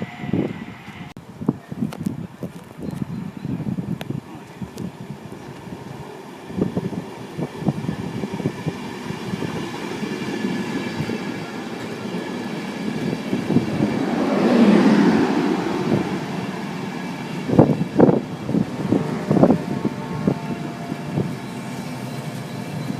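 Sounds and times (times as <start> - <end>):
train passing: 4.4 - 22.9.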